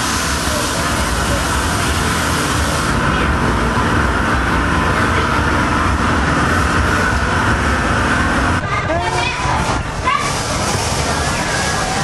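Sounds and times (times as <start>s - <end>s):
ride rumbling and humming: 0.0s - 12.0s.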